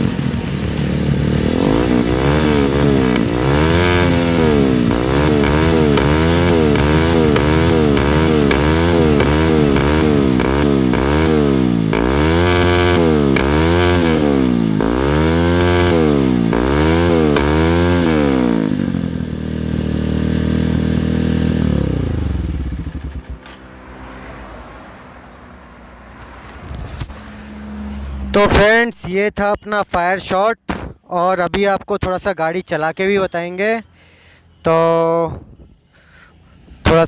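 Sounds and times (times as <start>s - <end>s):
motorcycle engine revving: 0.0s - 31.0s
motorcycle engine idling: 0.0s - 37.0s.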